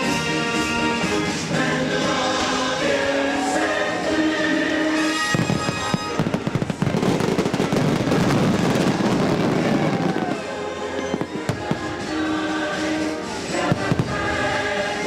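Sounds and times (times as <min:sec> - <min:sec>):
choir music: 0:00.0 - 0:15.0
fireworks bursts and crackling: 0:00.0 - 0:15.0
orchestral music: 0:00.0 - 0:15.0.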